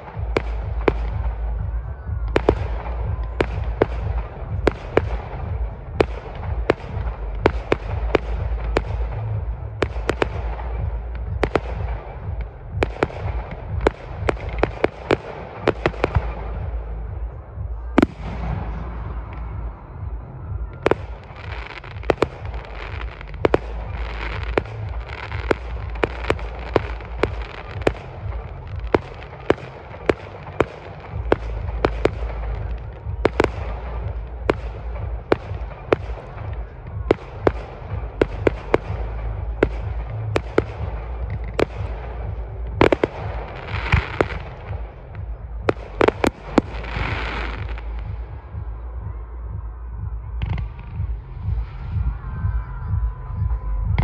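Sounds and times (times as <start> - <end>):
fireworks crackling: 0.0 - 48.8
fireworks bursting with sharp bangs: 0.0 - 52.3.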